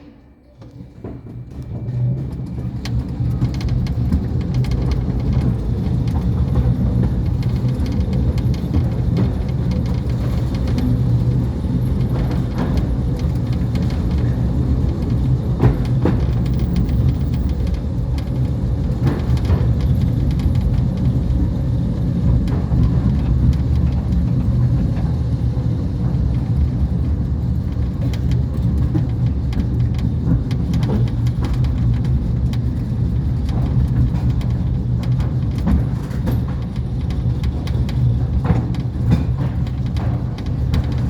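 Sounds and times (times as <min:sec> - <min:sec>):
electric train rumbling on track: 0:00.0 - 0:41.0
wheels clicking on rails: 0:00.0 - 0:41.0.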